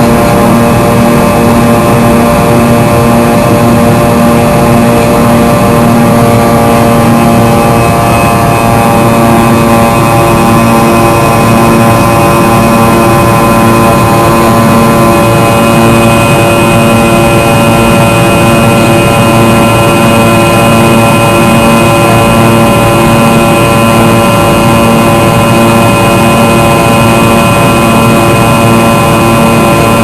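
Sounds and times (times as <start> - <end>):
engine whining tones: 0.0 - 30.0
jet engine drone in cabin: 0.0 - 30.0.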